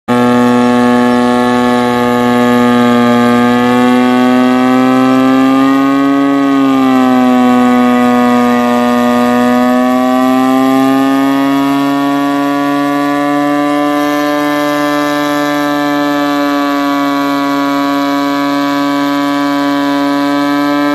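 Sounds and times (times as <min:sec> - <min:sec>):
high-pitched engine drone: 0:00.1 - 0:20.9.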